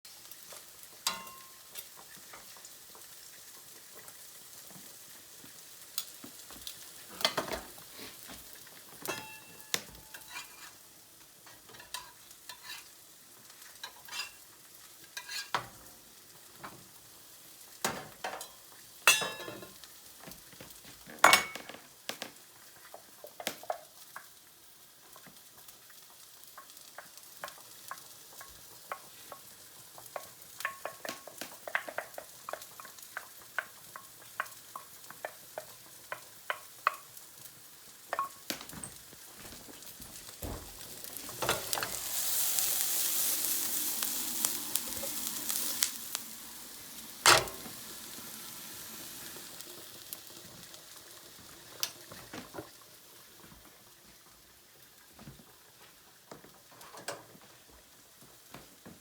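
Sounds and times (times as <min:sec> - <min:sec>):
faint steady hiss: 0:00.1 - 0:59.0.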